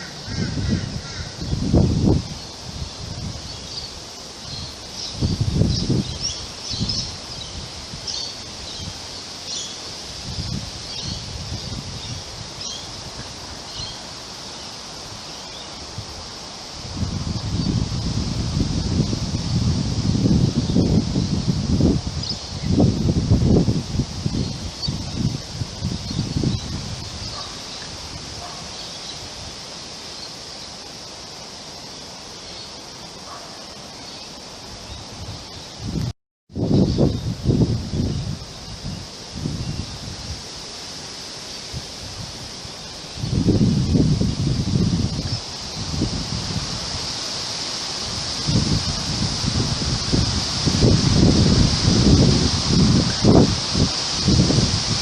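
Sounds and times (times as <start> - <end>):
wind rumbling on microphone: 0.0 - 31.6, 34.3 - 55.0
wind rustling leaves: 0.0 - 55.0.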